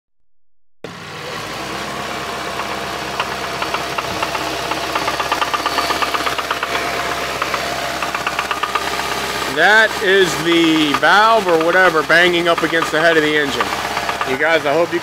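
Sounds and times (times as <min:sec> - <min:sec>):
engine running: 0:00.9 - 0:15.0
rapid metallic knocking: 0:02.6 - 0:15.0.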